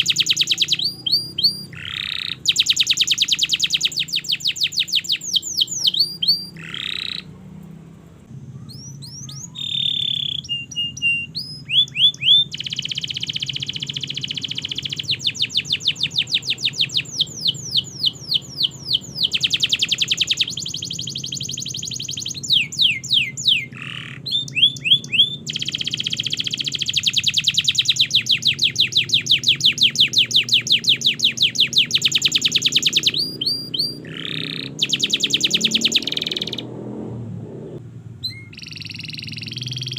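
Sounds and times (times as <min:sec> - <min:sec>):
canary singing trills: 0:00.0 - 0:37.0, 0:37.7 - 0:39.9.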